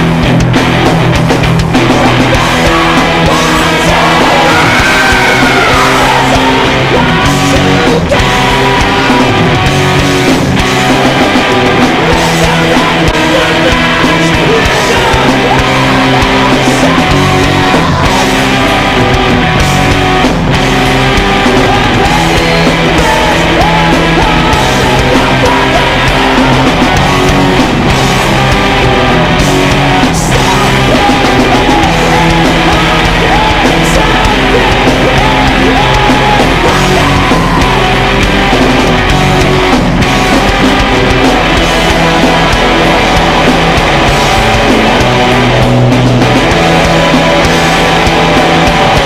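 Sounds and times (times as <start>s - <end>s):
loud rock music: 0.0s - 49.0s.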